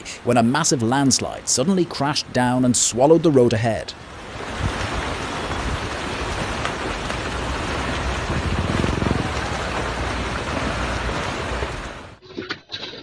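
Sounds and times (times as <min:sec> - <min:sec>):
steady rushing noise: 0:00.0 - 0:12.2.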